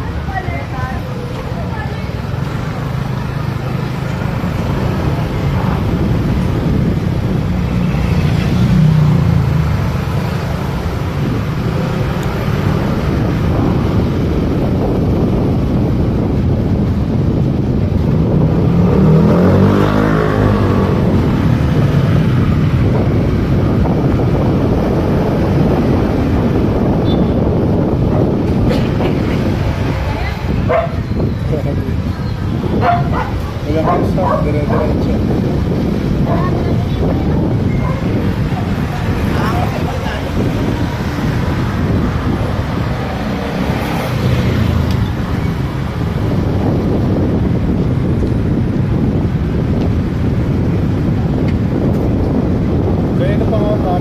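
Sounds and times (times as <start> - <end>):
wind on microphone: 0.0 - 54.0
vehicle passing close by: 1.0 - 54.0.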